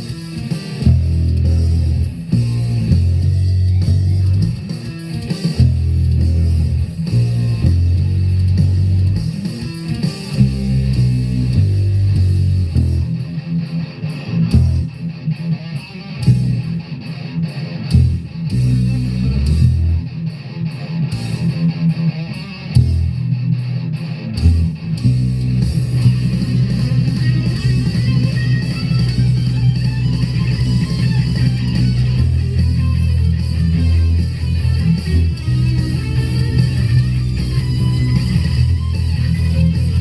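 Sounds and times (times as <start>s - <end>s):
electric bass guitar riff: 0.0s - 40.0s.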